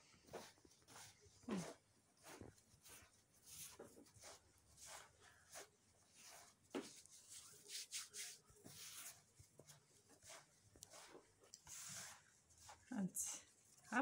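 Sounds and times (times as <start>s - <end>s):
fingertips rubbing flour in dish: 0.3s - 14.0s.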